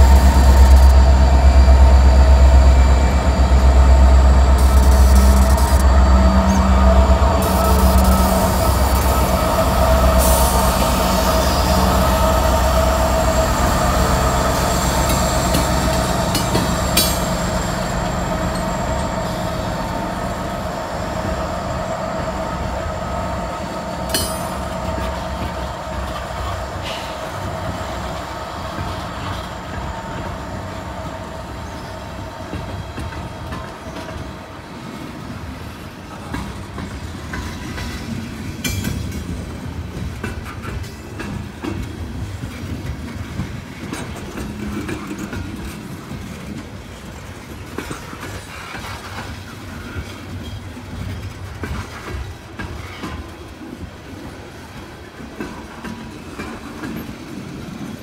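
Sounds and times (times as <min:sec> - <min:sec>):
locomotive rumble: 0:00.0 - 0:58.0
train wheels rolling and squealing: 0:00.0 - 0:58.0.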